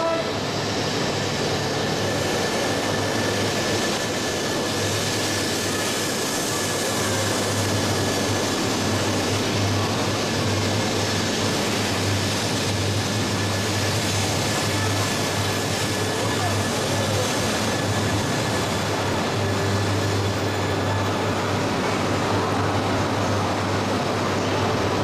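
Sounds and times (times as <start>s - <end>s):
low train hum: 0.0s - 25.0s
train rushing past: 0.0s - 25.0s.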